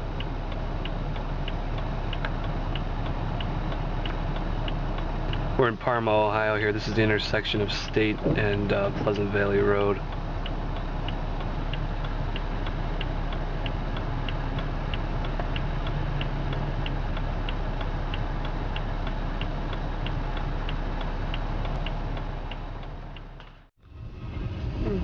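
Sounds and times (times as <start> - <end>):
turn signal ticking: 0.0 - 23.7
car engine and tyre hum: 0.0 - 25.0.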